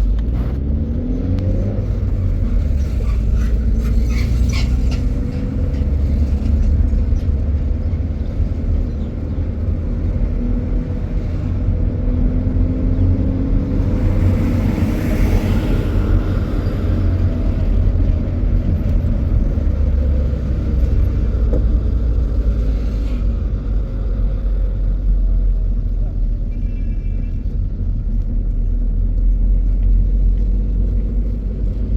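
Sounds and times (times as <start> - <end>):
motor vehicle rumbling: 0.0 - 31.9.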